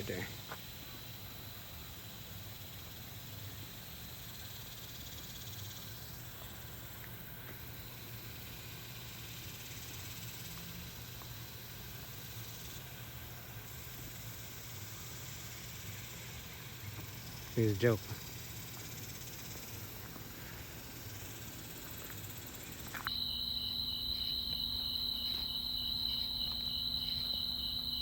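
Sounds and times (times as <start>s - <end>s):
insects high-pitched hiss: 0.0s - 28.0s.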